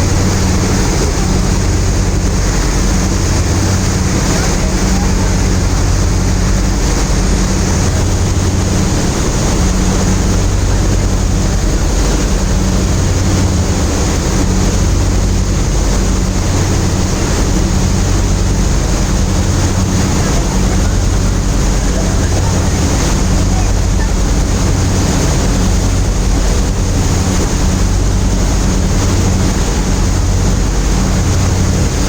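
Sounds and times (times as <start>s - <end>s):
low drone: 0.0s - 32.0s.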